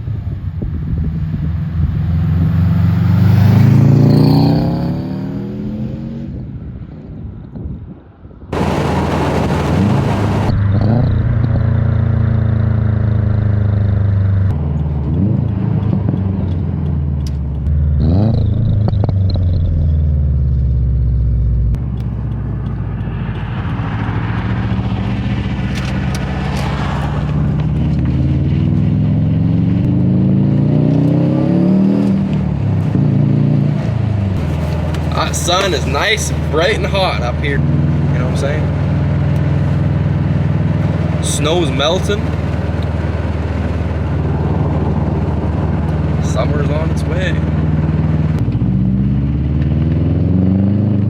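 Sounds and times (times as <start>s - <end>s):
car engine accelerating and revving: 0.0s - 7.0s, 8.6s - 51.0s.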